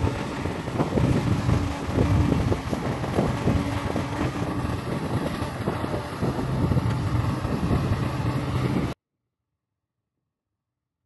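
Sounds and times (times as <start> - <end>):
heavy diesel engines running: 0.0 - 9.0
wind noise on microphone: 0.0 - 9.0.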